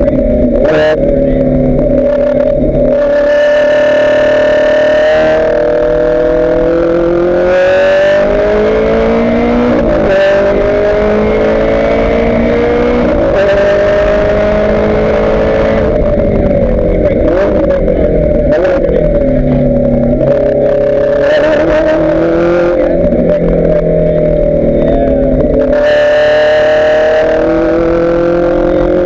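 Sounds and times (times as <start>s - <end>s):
engine crackles on downshifts: 0.0s - 29.0s
race car engine accelerating: 0.0s - 29.0s.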